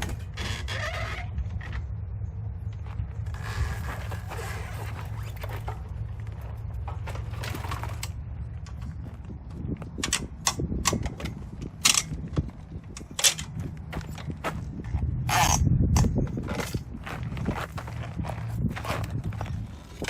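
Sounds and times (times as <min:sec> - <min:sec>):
steady low rumble: 0:00.0 - 0:20.0
clicks and knocks of gear: 0:02.6 - 0:20.0.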